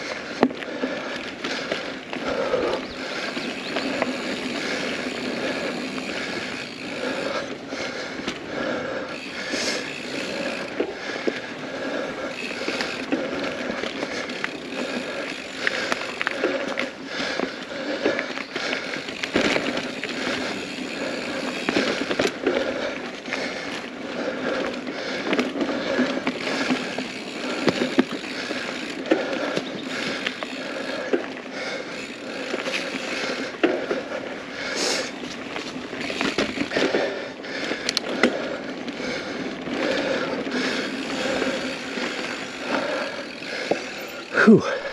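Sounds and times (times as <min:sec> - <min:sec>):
bike rattling and knocking: 0:00.0 - 0:44.9
bike tyres on dirt: 0:00.0 - 0:44.9.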